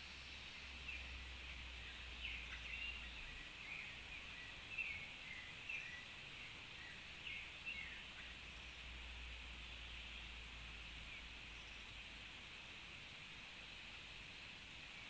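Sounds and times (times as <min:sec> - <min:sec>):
birds chirping: 0:00.0 - 0:15.0
stream hissing: 0:00.0 - 0:15.0.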